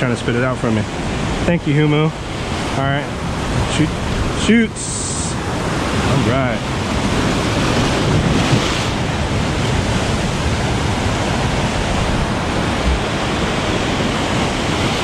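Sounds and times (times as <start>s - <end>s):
surf breaking on rocks: 0.0s - 15.0s
wind buffeting microphone: 0.0s - 15.0s.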